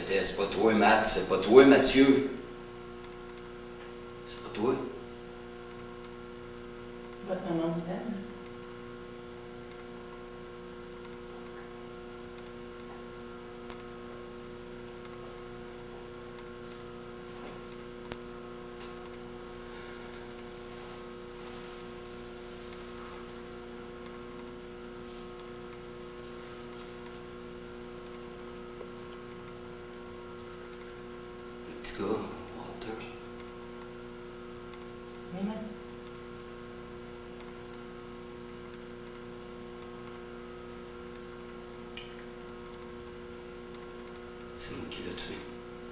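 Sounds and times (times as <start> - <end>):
electrical hum: 0.0 - 45.9.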